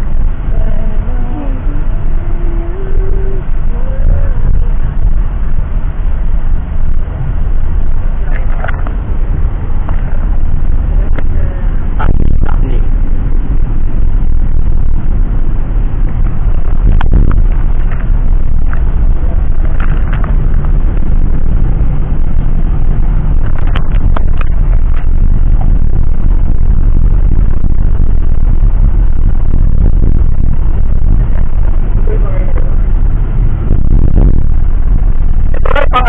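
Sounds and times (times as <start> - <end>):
jet cabin engine rumble: 0.0 - 36.0.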